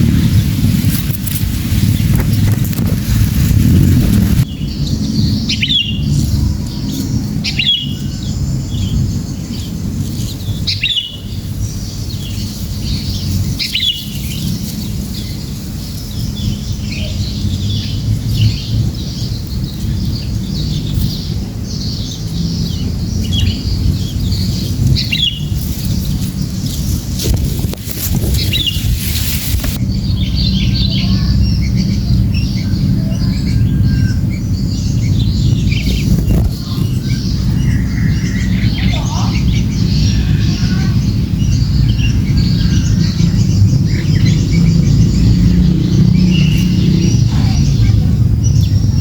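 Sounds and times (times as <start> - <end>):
small birds chirping: 0.0 - 49.0
steady low rumble: 0.0 - 49.0.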